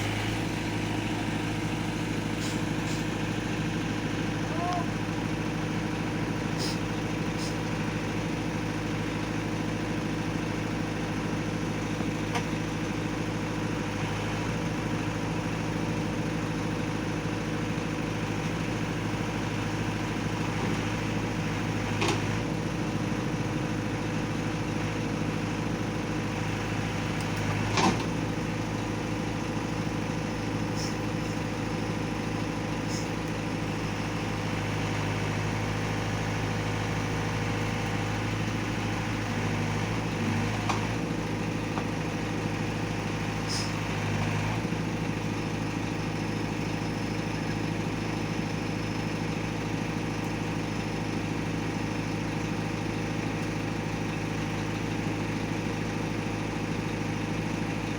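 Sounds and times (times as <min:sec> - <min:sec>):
heavy vehicle engine idling: 0:00.0 - 0:57.9.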